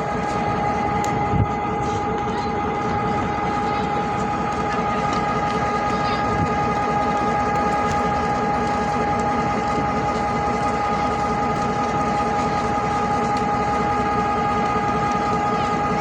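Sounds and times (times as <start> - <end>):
high-pitched whine: 0.0 - 16.0
train rumbling: 0.0 - 16.0.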